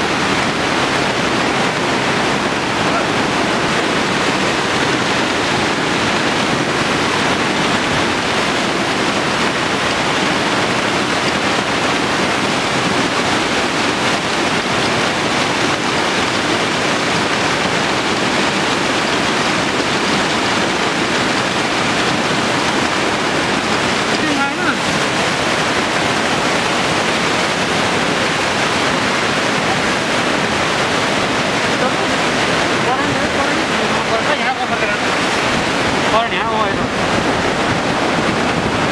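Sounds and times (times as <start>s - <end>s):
river torrent rushing: 0.0s - 38.9s.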